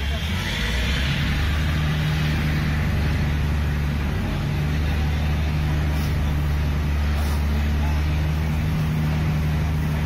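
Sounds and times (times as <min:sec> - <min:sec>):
ferry engine humming: 0:00.0 - 0:10.0.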